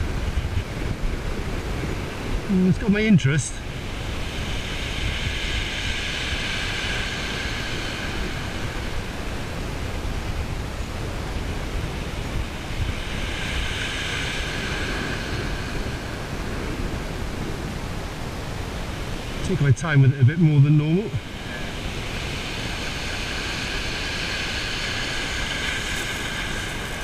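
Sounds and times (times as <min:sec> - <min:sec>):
sea waves washing in: 0:00.0 - 0:27.0
wind rumble on microphone: 0:00.0 - 0:27.0.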